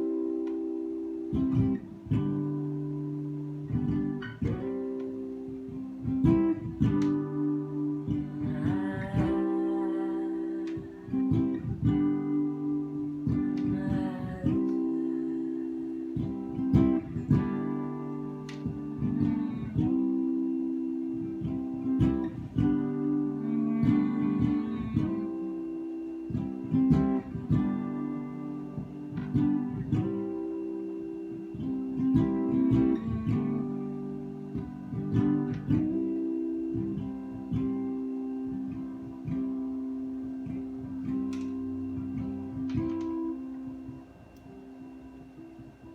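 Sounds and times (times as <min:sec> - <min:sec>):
acoustic guitar playing chords: 0:00.0 - 0:45.9.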